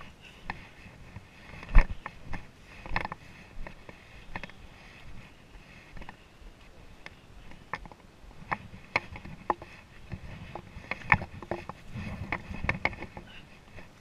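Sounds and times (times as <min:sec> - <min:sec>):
rustle of movement: 0:00.0 - 0:14.0
trekking poles clicking on rock: 0:00.4 - 0:04.6, 0:07.0 - 0:14.0.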